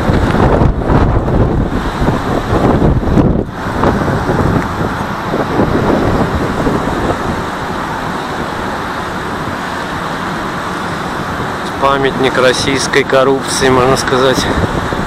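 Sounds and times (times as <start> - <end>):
road traffic noise: 0.0 - 15.0
wind buffeting microphone: 0.0 - 15.0.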